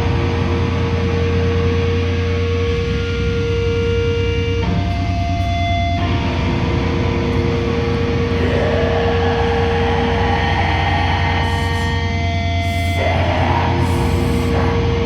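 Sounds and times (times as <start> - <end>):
droning amplifier feedback: 0.0 - 15.0
low hum: 0.0 - 15.0.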